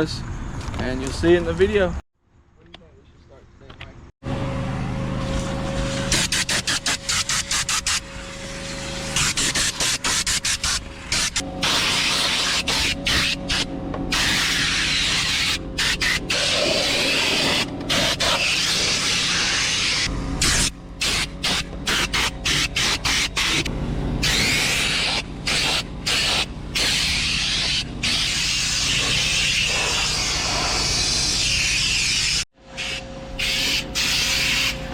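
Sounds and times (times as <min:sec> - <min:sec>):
hissing pressurized spray: 0:05.8 - 0:34.8.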